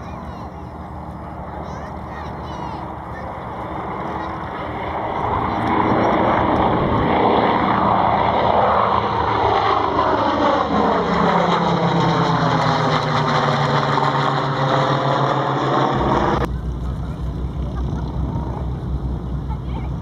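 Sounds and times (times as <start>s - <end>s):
propeller plane engines fly-by: 0.0s - 20.0s.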